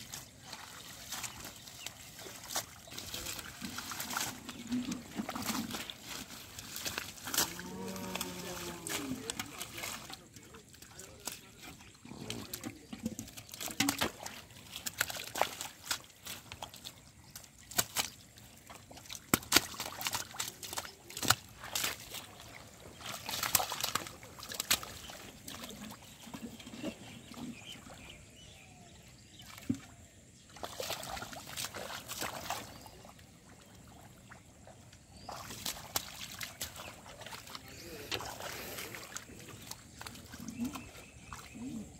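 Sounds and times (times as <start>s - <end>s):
hands squelching in mud and water: 0.0s - 41.9s.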